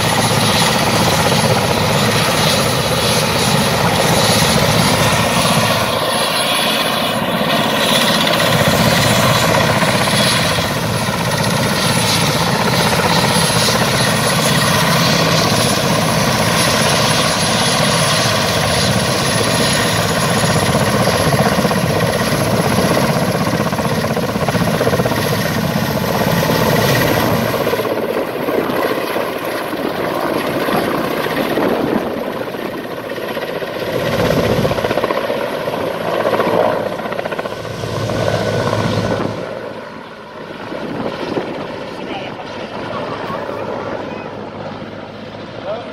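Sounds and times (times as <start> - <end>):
helicopter rotor noise: 0.0 - 45.9.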